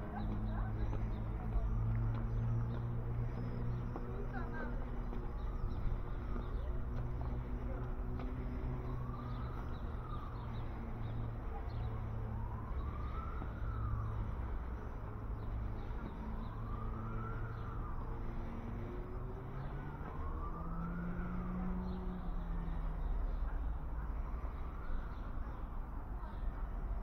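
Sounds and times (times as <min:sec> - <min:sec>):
emergency siren wailing: 0:00.0 - 0:27.0.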